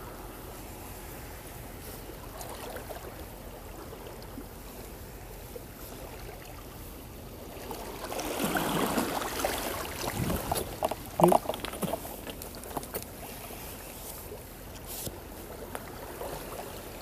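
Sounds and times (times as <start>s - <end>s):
seawater lapping against rocks: 0.0s - 17.0s.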